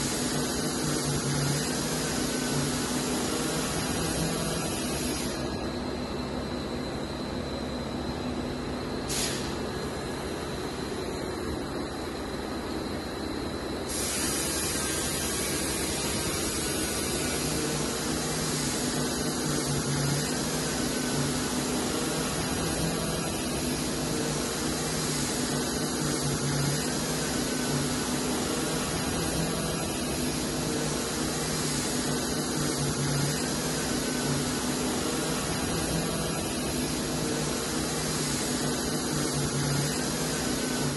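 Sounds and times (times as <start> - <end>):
steady hissing noise: 0.0 - 40.9.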